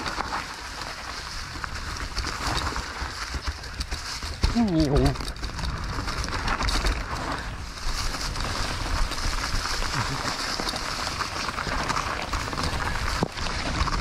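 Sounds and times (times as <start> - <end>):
bike tyres crunching through leaves: 0.0 - 14.0
low rumble of wind: 0.0 - 14.0.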